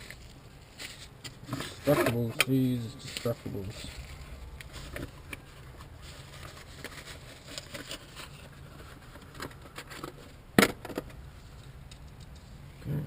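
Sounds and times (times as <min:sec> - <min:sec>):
tools and parts clicking and rattling: 0:00.0 - 0:12.6.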